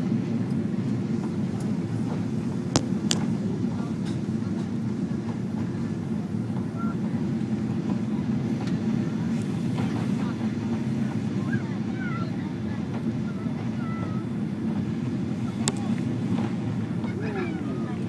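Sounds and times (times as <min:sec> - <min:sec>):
airplane cabin engine roar: 0:00.0 - 0:18.0.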